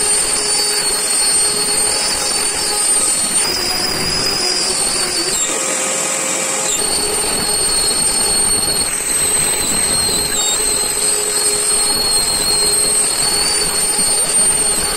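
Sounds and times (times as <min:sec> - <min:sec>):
router spindle whining: 0:00.0 - 0:14.9.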